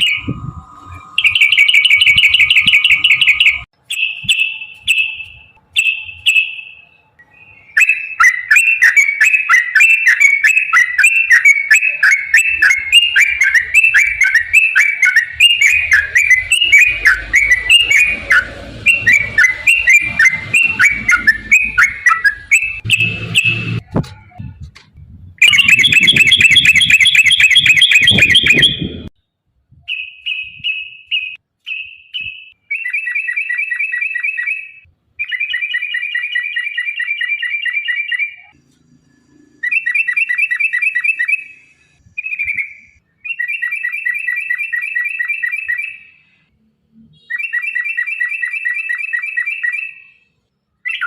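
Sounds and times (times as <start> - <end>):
bird song trills and chirps: 0.0 - 24.5, 25.4 - 29.1, 29.7 - 51.0.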